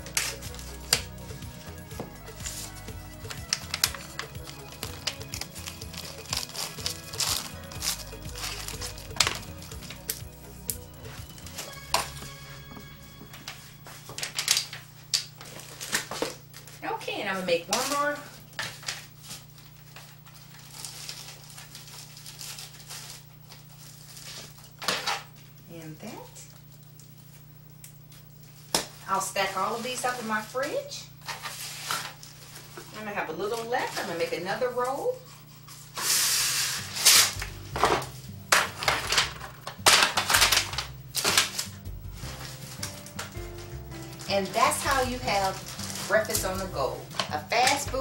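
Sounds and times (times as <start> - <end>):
plastic wrap crinkling: 0.0 - 12.7, 13.3 - 48.0.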